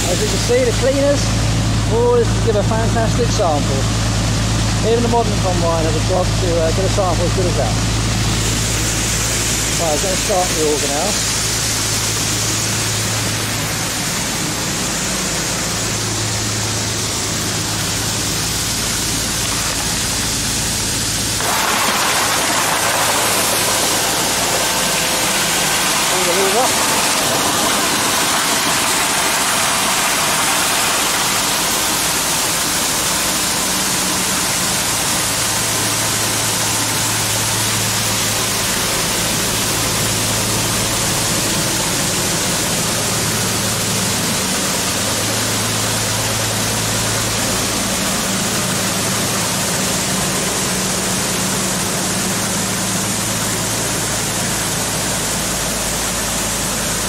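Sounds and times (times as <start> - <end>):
combine running: 0.0 - 57.0
grain augers running: 0.0 - 57.0
rush of grain unloading: 0.0 - 57.0.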